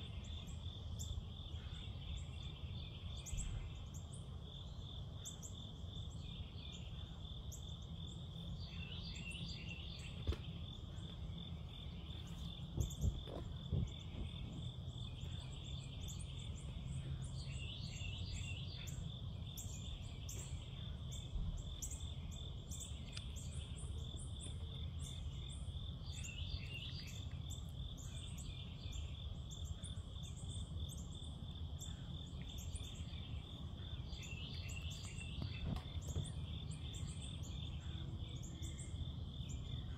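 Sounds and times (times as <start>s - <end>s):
crickets trilling: 0.0s - 39.9s
insects chirping: 0.0s - 39.9s
low background hum: 0.0s - 39.9s.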